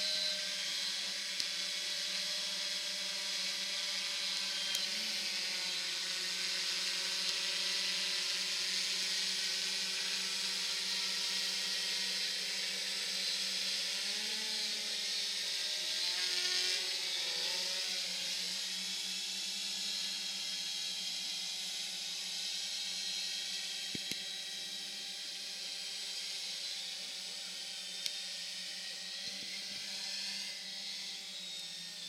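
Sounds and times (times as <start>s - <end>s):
drones hovering buzzing whine: 0.0s - 32.0s.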